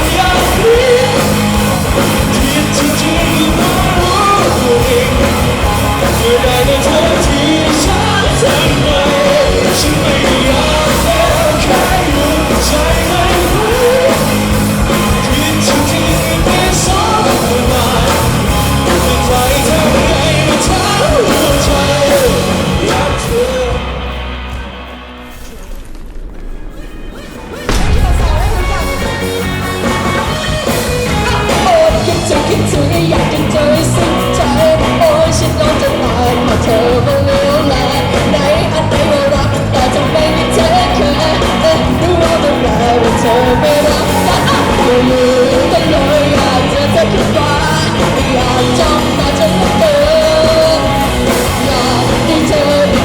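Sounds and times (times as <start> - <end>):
live rock band with singer: 0.0 - 25.6, 26.7 - 53.0.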